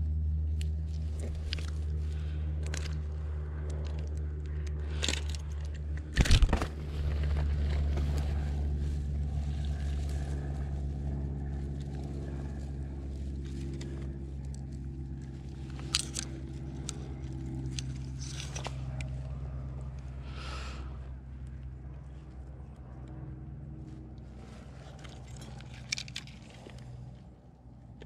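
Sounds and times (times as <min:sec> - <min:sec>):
low mechanical hum: 0:00.0 - 0:28.0
rustling and clicks on grass: 0:00.4 - 0:20.2, 0:23.8 - 0:28.0.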